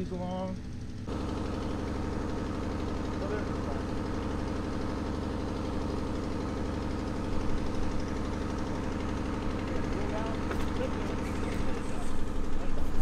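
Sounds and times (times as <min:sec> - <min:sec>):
boat motor pulsing hum: 0:00.0 - 0:13.0.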